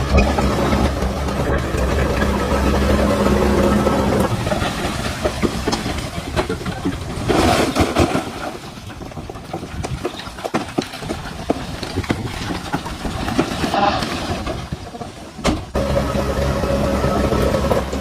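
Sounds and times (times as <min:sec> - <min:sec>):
bulldozer engine running: 0:00.0 - 0:18.0
scraping rumble: 0:00.0 - 0:18.0
tracks and stones clanking: 0:00.0 - 0:18.0.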